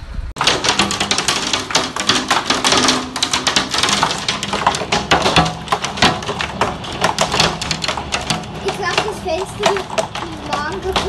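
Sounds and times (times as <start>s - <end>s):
hail clattering on window glass: 0.4s - 11.0s.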